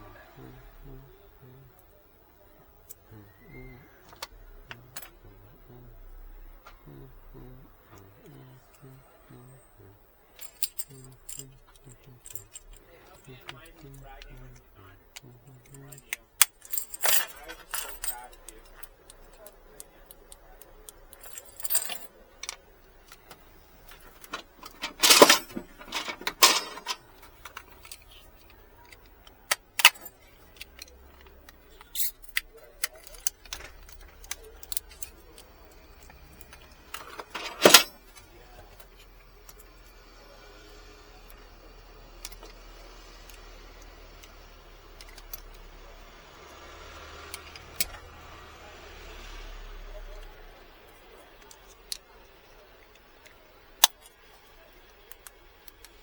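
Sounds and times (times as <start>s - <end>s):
low steady hum: 0.0s - 56.0s
car keys jangling: 0.4s - 56.0s.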